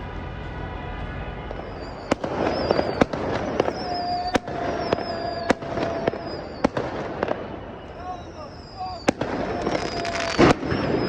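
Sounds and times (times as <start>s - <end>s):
fireworks cracks and bangs: 0.0s - 11.0s
whistling rockets: 0.0s - 11.0s.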